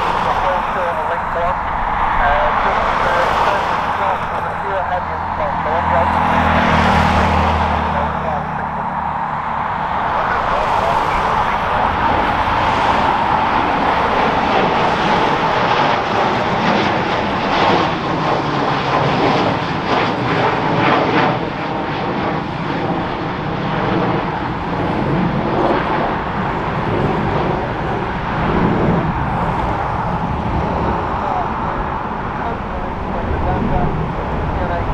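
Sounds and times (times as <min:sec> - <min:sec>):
jet roar with whine: 0:00.0 - 0:34.9.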